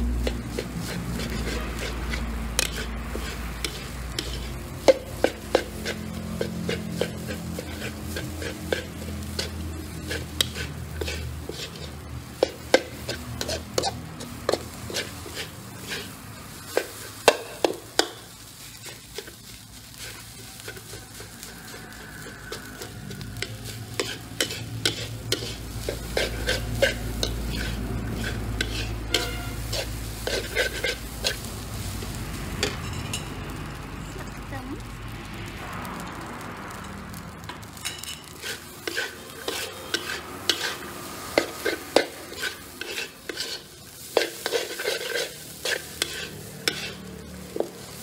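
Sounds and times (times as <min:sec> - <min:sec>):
metal spatula scraping wok: 0:00.0 - 0:33.8, 0:36.6 - 0:48.0
rice sizzling: 0:00.0 - 0:48.0.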